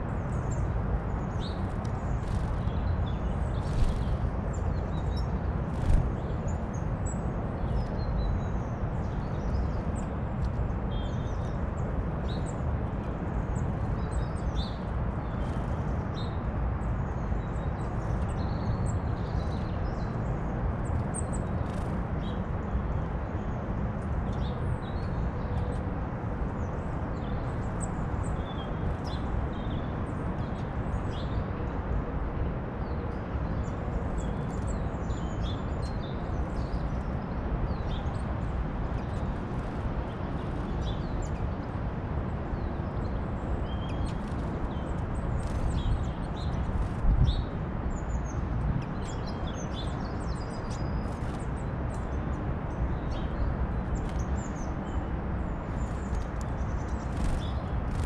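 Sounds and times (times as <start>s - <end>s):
songbirds chirping: 0.0s - 31.9s, 32.8s - 58.0s.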